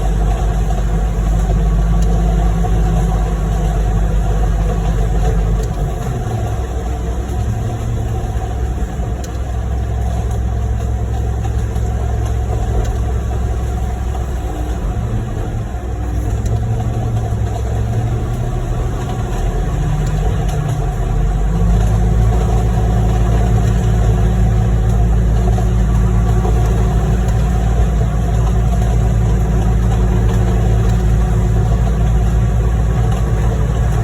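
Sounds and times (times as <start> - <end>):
heavy diesel engines running: 0.0 - 34.0.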